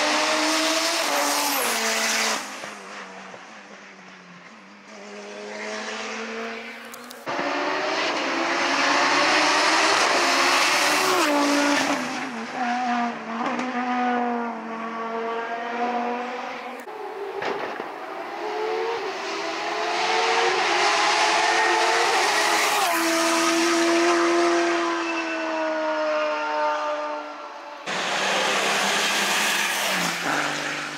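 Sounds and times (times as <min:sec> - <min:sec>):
race car engines accelerating: 0:00.0 - 0:04.0, 0:04.8 - 0:30.9.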